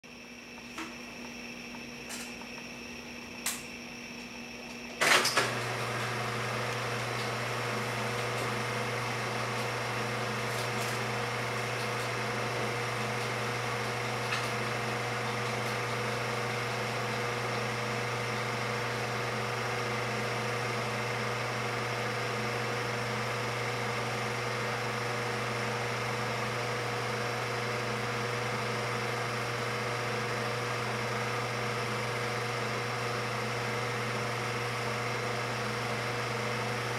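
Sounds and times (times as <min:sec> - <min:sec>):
projector motor humming and whirring: 0:00.1 - 0:36.9.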